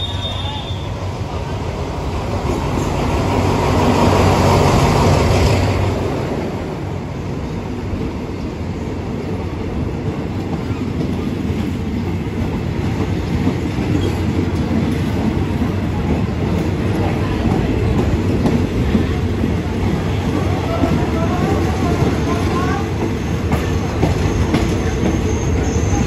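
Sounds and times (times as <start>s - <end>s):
diesel locomotive engine: 0.0s - 26.0s
train coaches rumbling: 0.0s - 26.0s.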